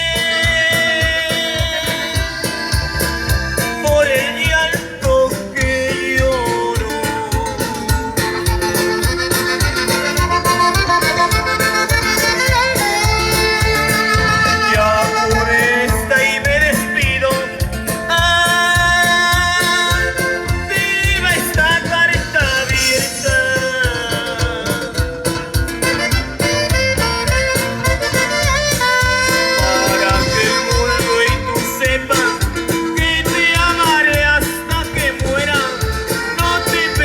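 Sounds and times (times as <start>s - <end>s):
latin-style band playing: 0.0s - 37.0s.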